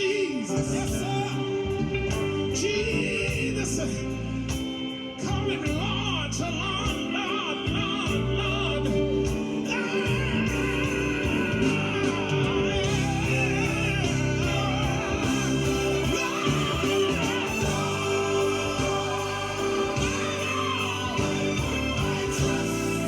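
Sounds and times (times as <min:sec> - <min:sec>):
gospel singing voices: 0:00.0 - 0:23.0
held instrumental chords: 0:00.0 - 0:23.0
bass line: 0:00.5 - 0:23.0.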